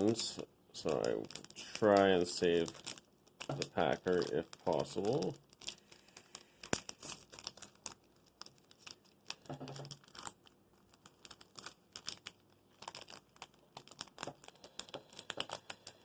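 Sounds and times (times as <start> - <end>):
foil wrapper tearing and crinkling: 0.0 - 16.0.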